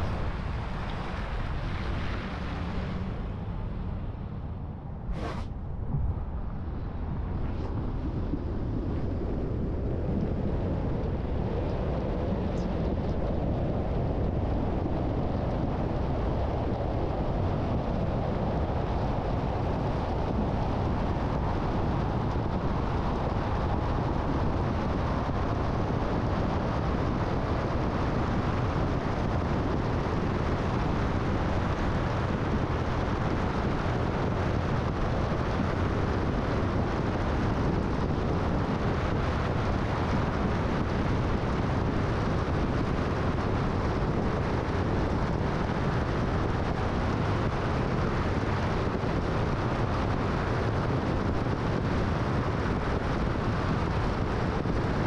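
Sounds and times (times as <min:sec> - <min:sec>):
wind noise: 0:00.0 - 0:55.0.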